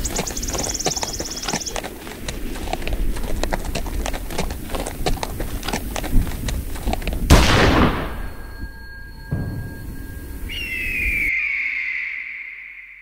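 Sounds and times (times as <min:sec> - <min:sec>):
horse hooves on hard ground: 0:00.0 - 0:11.3.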